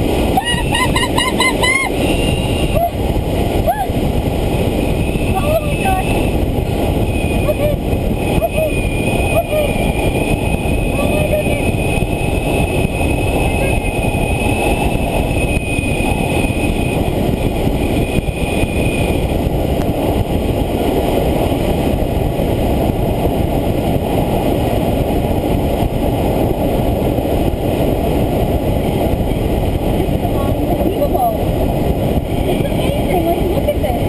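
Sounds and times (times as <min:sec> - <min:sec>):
air rushing past glider canopy: 0:00.0 - 0:34.0.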